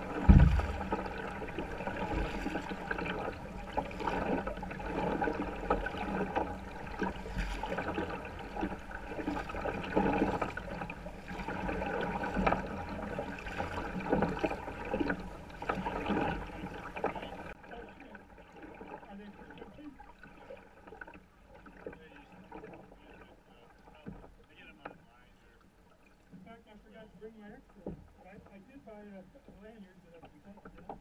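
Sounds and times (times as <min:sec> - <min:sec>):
water splashing and gurgling: 0:00.0 - 0:28.6
kayak paddle strokes: 0:00.0 - 0:31.0.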